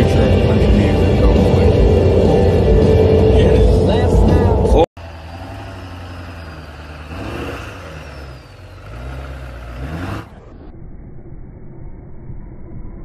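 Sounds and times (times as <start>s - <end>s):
diesel truck engine revving: 0.0s - 10.6s.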